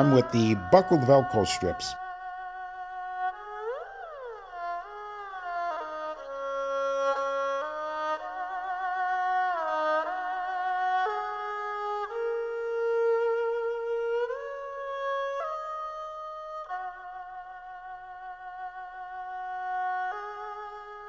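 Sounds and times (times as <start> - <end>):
slow melody on flute or fiddle: 0.0 - 21.0.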